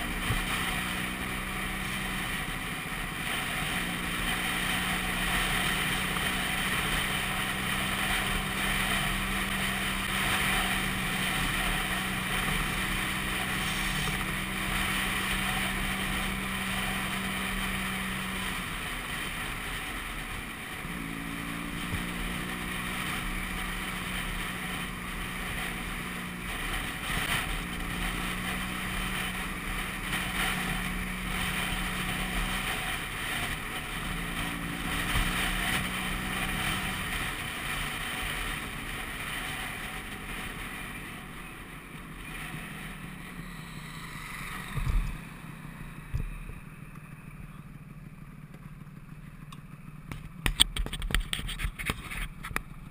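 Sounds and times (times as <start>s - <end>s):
scooter engine running: 0.0s - 52.9s.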